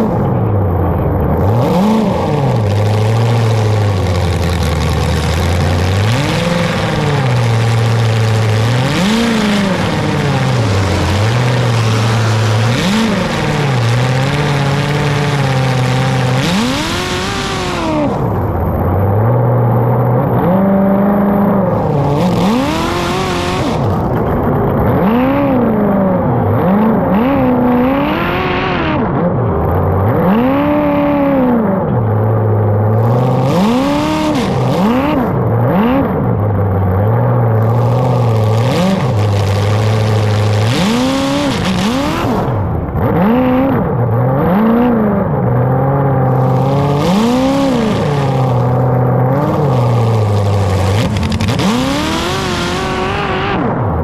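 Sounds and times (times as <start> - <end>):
racing engine revving: 0.0 - 54.0.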